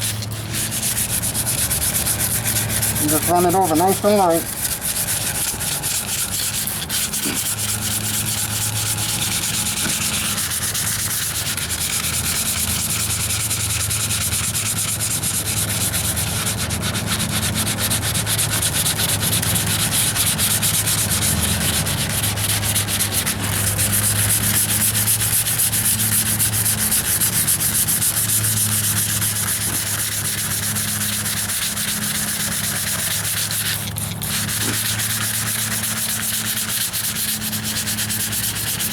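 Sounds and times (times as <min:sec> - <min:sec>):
wet sanding scratchy rubbing: 0:00.0 - 0:38.9.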